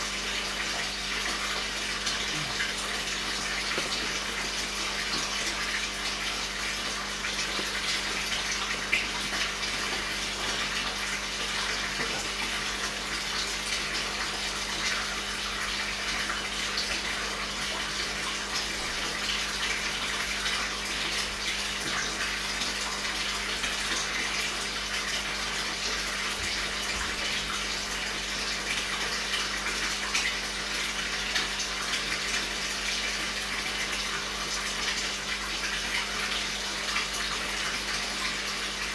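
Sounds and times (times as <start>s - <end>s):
pump humming: 0.0s - 38.9s
water splashing into tank: 0.0s - 38.9s.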